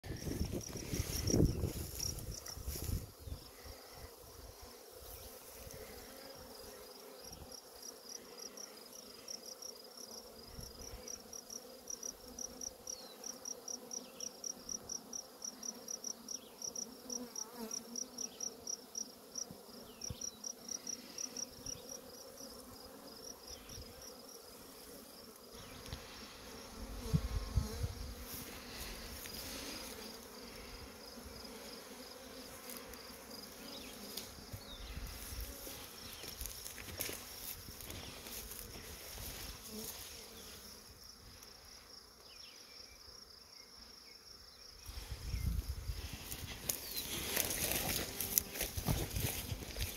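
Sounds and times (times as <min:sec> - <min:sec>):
bee swarm humming: 0:00.0 - 0:49.9.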